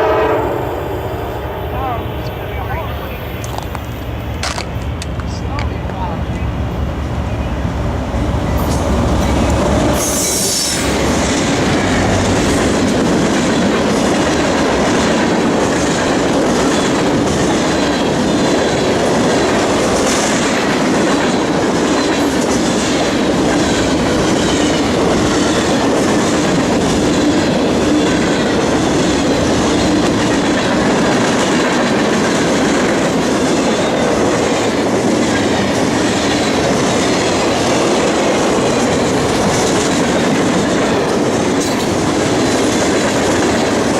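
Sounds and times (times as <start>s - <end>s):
train cars rumbling past: 0.0s - 43.9s
wheels clicking on rails: 8.6s - 43.9s.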